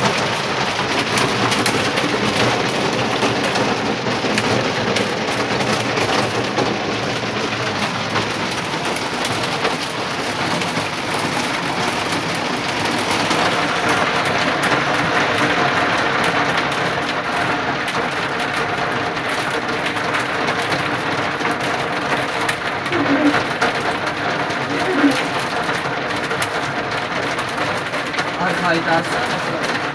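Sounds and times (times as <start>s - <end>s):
heavy rain pouring: 0.0s - 29.9s.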